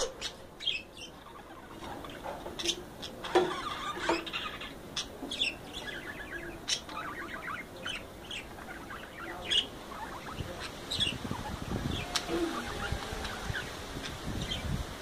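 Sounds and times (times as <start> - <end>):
budgerigars chirping: 0.0 - 14.8.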